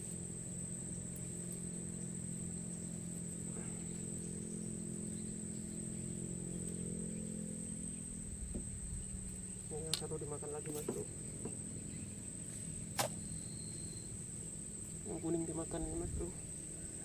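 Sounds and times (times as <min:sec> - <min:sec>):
insects chirring: 0:00.0 - 0:17.0
low steady hum: 0:00.0 - 0:17.0.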